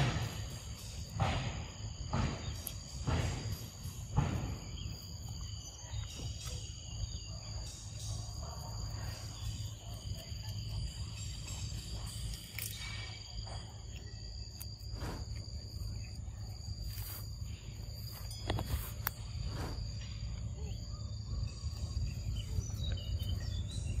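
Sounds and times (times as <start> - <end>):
high-pitched insect drone: 0.0 - 24.0
low constant rumble: 0.0 - 24.0.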